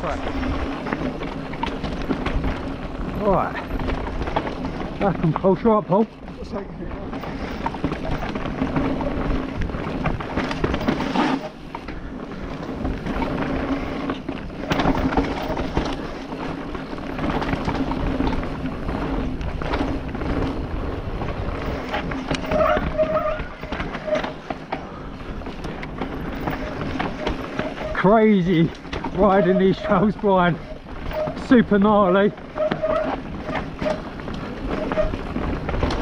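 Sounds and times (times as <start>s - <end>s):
bike knocking and rattling: 0.0s - 36.0s
tyres rolling over dirt and stones: 0.0s - 36.0s.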